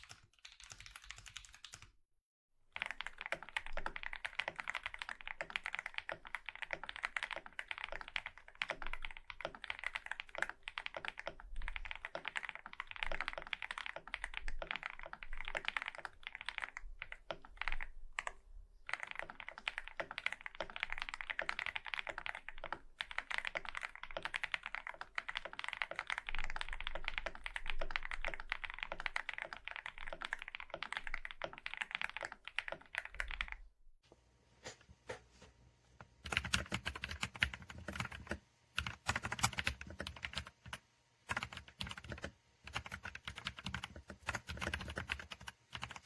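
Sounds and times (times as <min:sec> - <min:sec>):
typing on a mechanical keyboard: 0:00.0 - 0:01.9, 0:02.7 - 0:33.6, 0:36.2 - 0:46.0.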